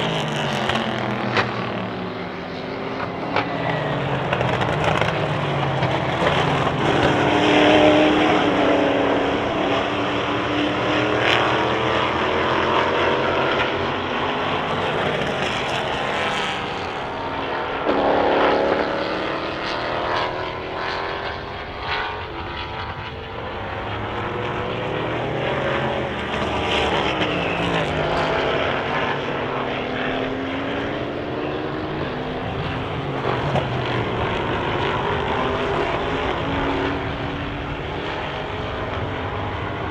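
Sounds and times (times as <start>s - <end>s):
race car engines passing: 0.0s - 39.9s.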